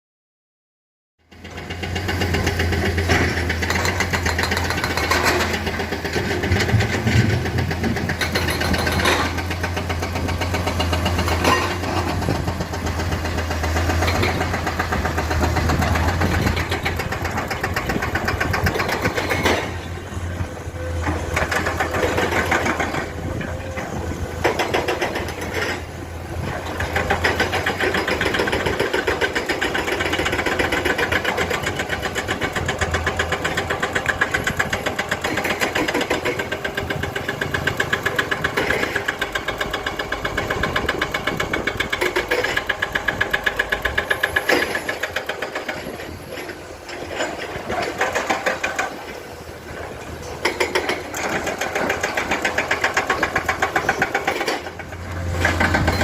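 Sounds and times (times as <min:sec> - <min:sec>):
excavator diesel engine droning: 0:01.2 - 0:56.0.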